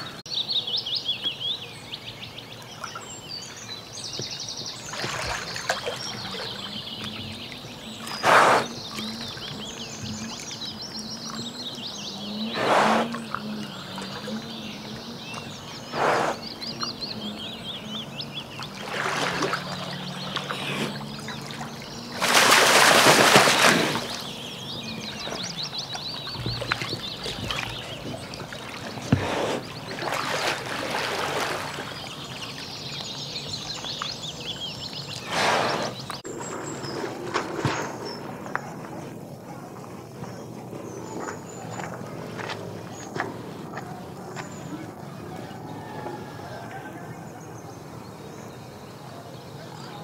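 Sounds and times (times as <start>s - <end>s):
birds chirping: 0.0s - 50.0s
water splashing and sloshing: 2.4s - 48.4s.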